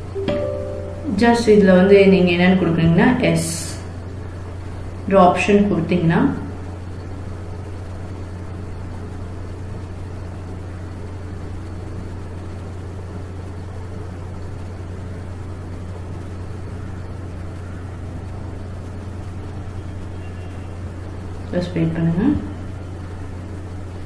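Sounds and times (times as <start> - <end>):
low hum with hiss: 0.0 - 24.0.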